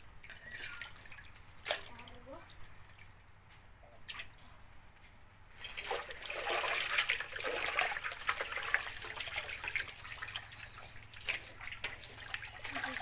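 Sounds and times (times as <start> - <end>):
water pouring and splashing: 0.2 - 3.1, 5.5 - 13.0.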